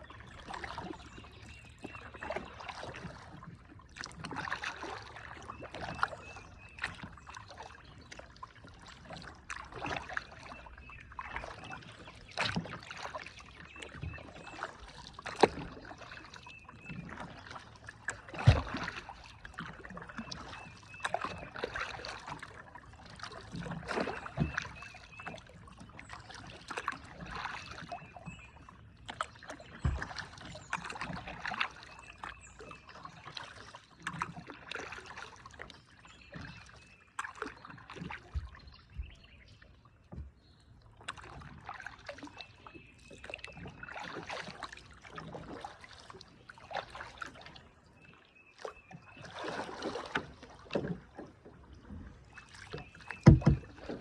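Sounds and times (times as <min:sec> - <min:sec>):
paddle stroking water: 0:00.0 - 0:54.0
water dripping off paddle: 0:01.7 - 0:39.2, 0:40.1 - 0:47.6, 0:48.6 - 0:54.0.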